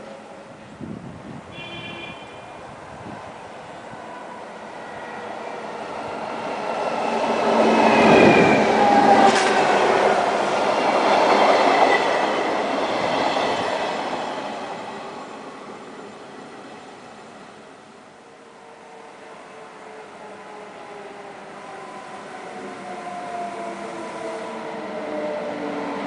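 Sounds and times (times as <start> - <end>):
electric train passing: 2.4 - 26.0.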